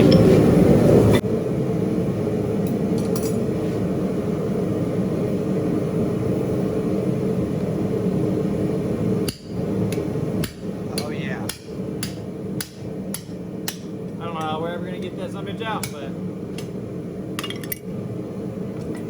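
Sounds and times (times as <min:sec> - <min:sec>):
forge roaring with faint hum: 0:00.0 - 0:19.0.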